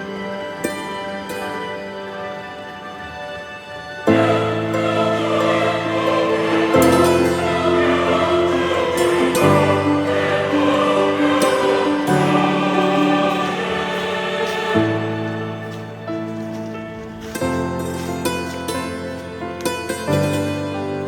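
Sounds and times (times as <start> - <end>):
choir-like chords: 0.0 - 21.0.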